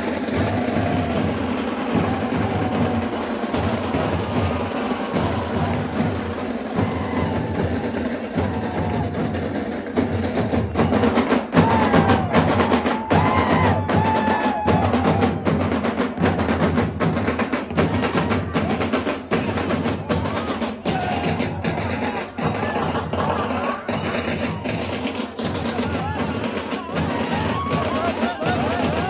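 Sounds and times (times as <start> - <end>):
driving percussion beat: 0.0 - 29.0.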